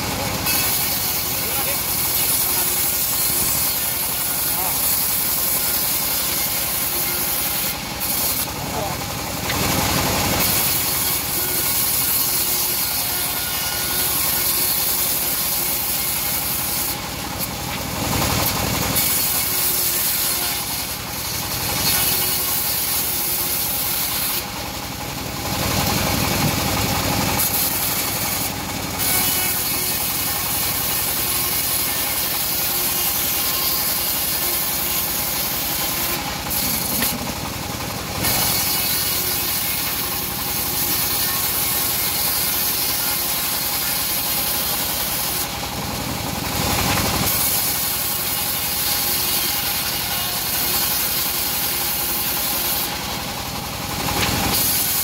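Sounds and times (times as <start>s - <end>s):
bandsaw blade cutting wood: 0.0s - 55.0s
sawmill engine running: 0.0s - 55.0s.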